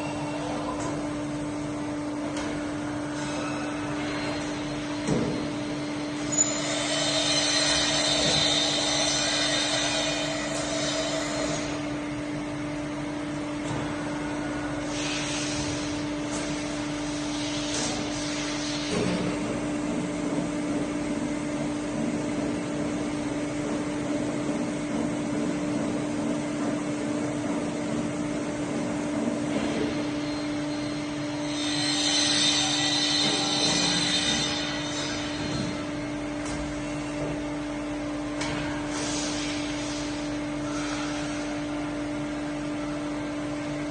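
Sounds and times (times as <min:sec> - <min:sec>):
milling machine humming: 0:00.0 - 0:43.9.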